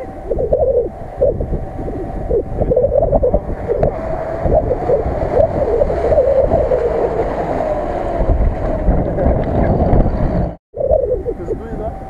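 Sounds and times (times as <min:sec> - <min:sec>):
engine working hard: 0:00.0 - 0:12.0
wind buffeting microphone: 0:00.0 - 0:12.0.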